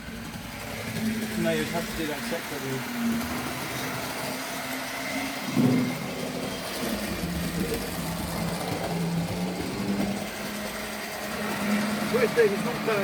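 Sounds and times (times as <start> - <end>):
wheels rattling on track: 0.0 - 4.6, 5.5 - 13.0
model train motor hum: 0.0 - 13.0.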